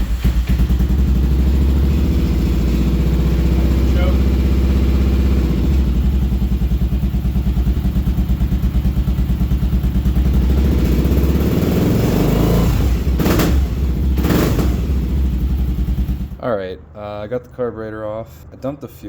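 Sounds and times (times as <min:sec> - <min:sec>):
motorcycle engine running roughly: 0:00.0 - 0:16.4.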